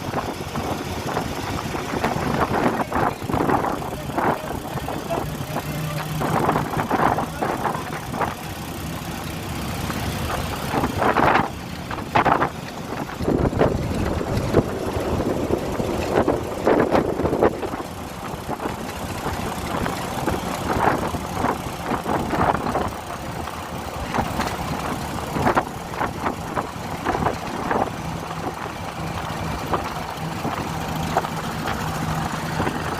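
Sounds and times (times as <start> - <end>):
knocks and rattles: 0.0 - 32.9
low engine hum: 0.0 - 32.9
vehicle road and engine noise: 0.0 - 32.9.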